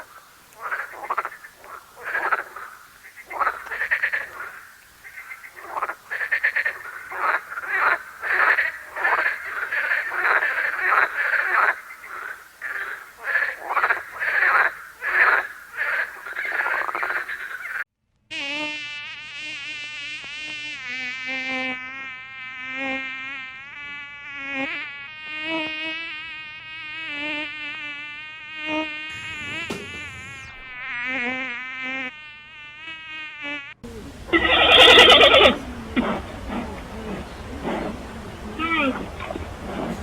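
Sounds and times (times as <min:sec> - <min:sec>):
insect wings buzzing: 0:00.0 - 0:40.0.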